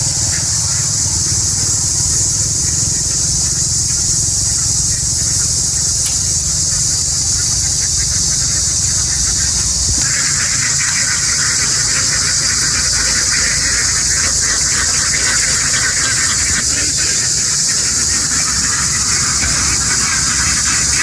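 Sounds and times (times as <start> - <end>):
engine running steadily: 0.0 - 21.0
steady high hiss: 0.0 - 21.0.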